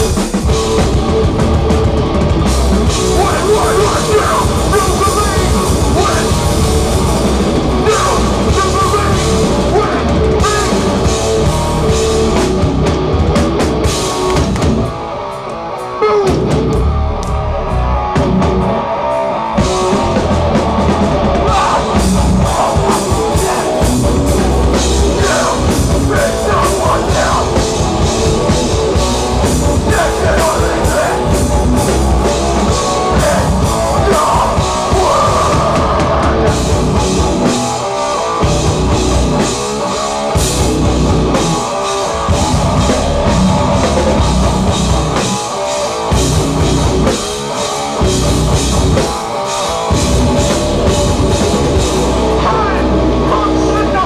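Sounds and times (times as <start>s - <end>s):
hardcore band playing live: 0.0s - 54.0s.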